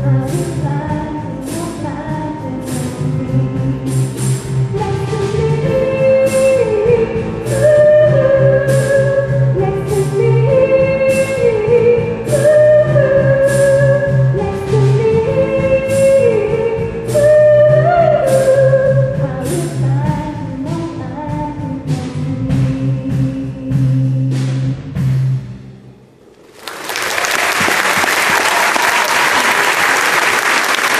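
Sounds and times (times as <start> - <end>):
steady bass line: 0.0 - 26.2.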